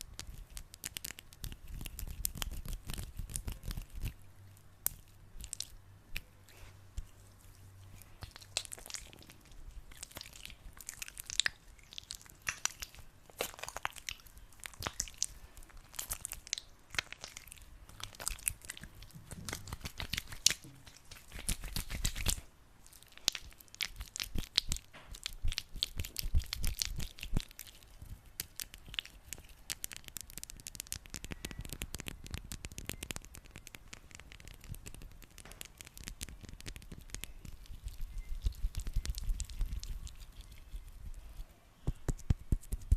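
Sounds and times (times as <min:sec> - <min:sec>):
hands squeezing sticky gel: 0:00.0 - 0:42.9.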